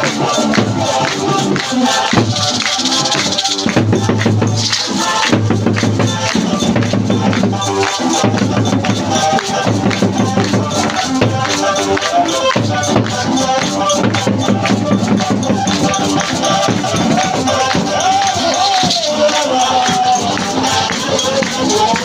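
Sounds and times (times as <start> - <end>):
fast percussion beat: 0.0 - 22.0
rattling shakers: 0.0 - 22.0.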